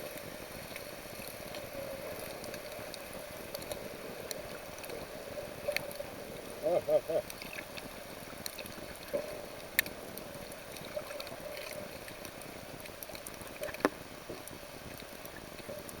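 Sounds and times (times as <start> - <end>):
sea water: 0.0 - 16.0.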